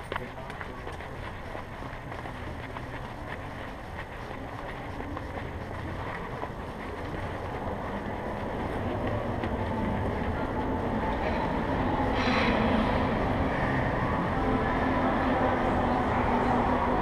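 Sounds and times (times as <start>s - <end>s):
camera rumbling while walking: 0.0s - 13.8s
indoor mall hubbub: 0.0s - 17.0s.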